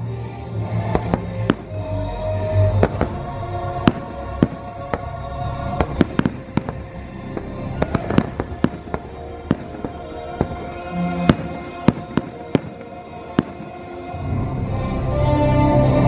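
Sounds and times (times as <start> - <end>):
music from loudspeakers: 0.0 - 16.0
fireworks bangs: 0.8 - 14.2.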